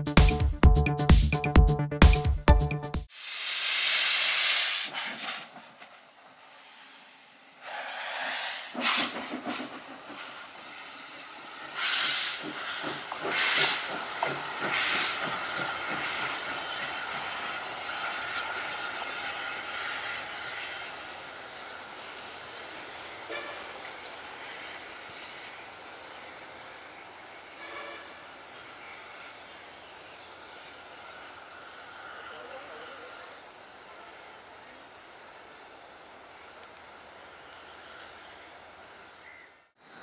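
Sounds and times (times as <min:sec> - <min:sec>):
soft steady steam hiss: 0:03.1 - 0:40.0
steam locomotive hissing blasts: 0:03.1 - 0:40.0.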